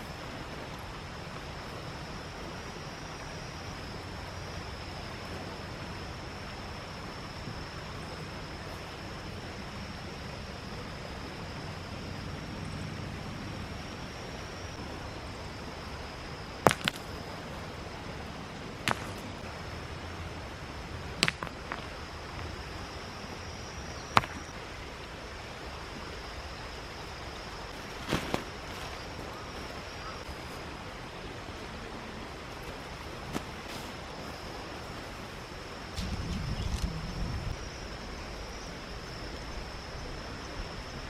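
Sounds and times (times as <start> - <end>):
faint high whine: 0.0 - 41.0
mountain stream rushing: 0.0 - 41.0.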